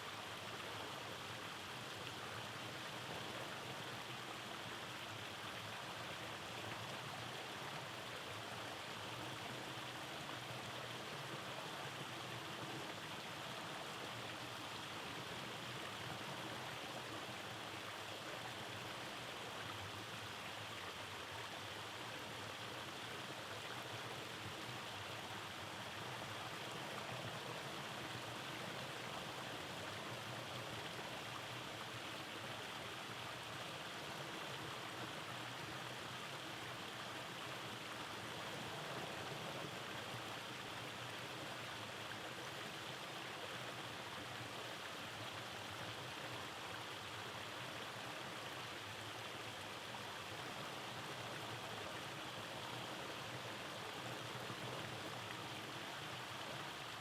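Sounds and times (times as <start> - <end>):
stream flowing over cascades: 0.0 - 57.0.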